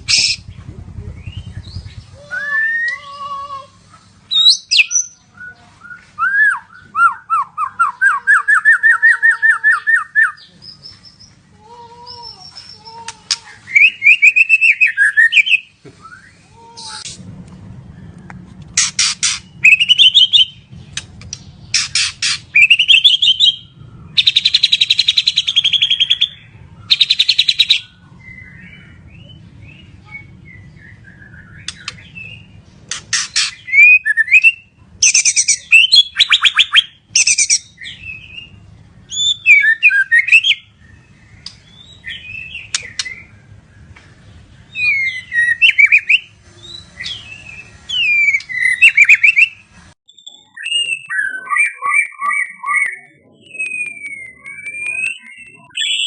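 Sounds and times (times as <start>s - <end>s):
songbird singing loudly: 0.0s - 3.4s, 4.2s - 11.4s, 12.1s - 17.1s, 18.8s - 56.0s.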